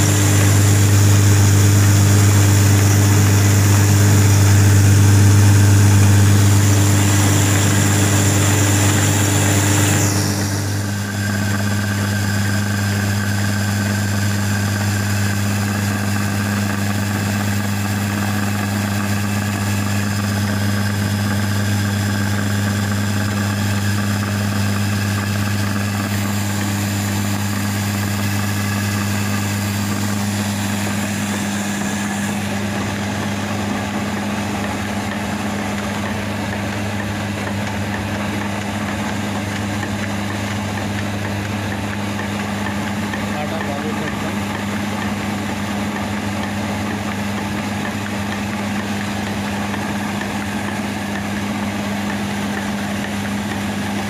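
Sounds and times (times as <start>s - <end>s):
flour mill humming: 0.0s - 54.0s.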